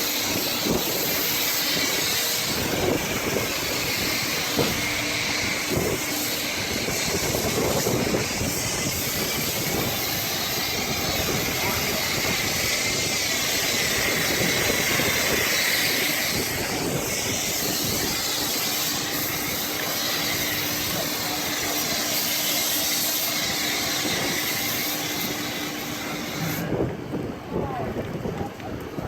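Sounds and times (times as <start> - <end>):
pressure washer spraying foam: 0.0 - 26.8.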